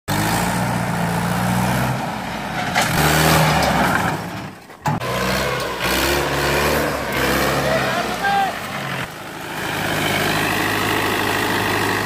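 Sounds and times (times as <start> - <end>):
tractor diesel engine running hard: 0.1 - 12.0.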